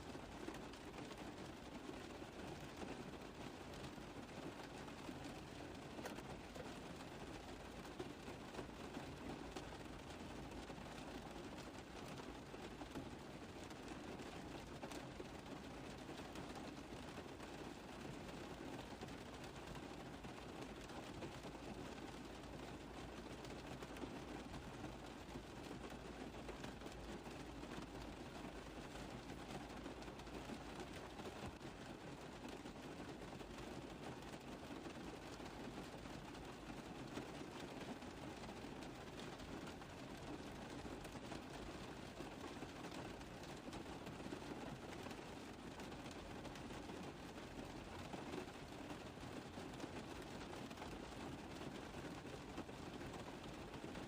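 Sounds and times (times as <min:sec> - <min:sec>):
rain tapping on a car roof: 0:00.0 - 0:54.0.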